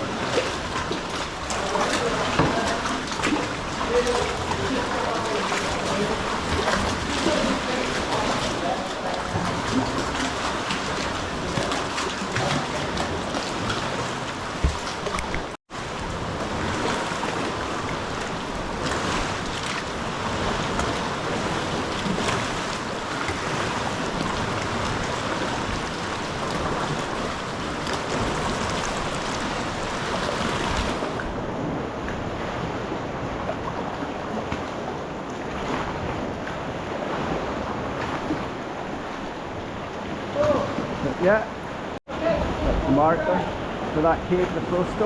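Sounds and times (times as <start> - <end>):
water washing around kayak: 0.0 - 45.0.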